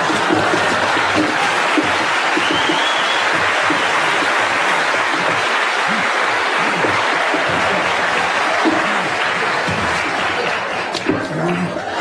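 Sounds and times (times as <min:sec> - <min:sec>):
audience applauding: 0:00.0 - 0:12.0
audience laughing: 0:00.0 - 0:12.0.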